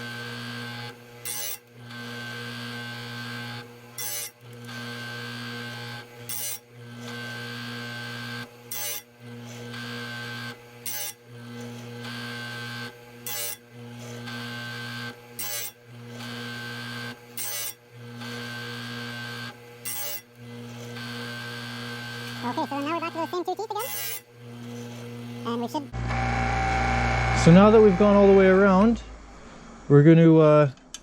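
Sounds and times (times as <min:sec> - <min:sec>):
grinder motor humming: 0:00.0 - 0:30.0.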